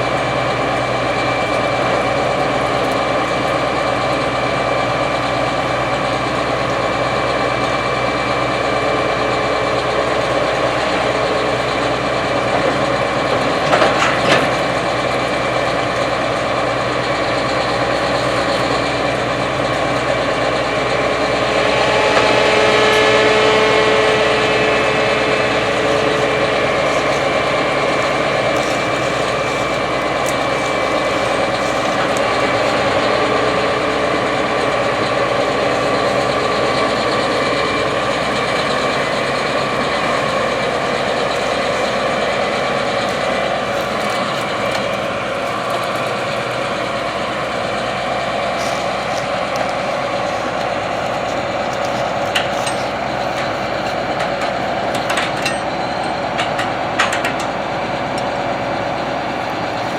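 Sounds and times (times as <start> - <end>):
combine harvester drone: 0.0 - 59.9
high machine whine: 0.0 - 59.9.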